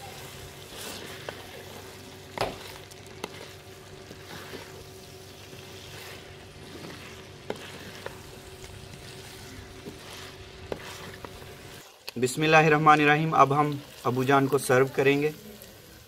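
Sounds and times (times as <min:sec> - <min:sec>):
wooden spoon stirring and scraping: 0:00.0 - 0:15.7
food sizzling in a clay pot: 0:00.0 - 0:16.0.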